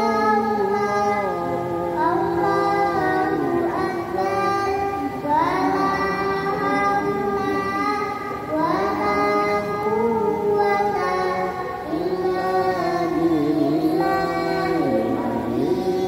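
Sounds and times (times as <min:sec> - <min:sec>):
boy chanting into a microphone: 0:00.0 - 0:16.0.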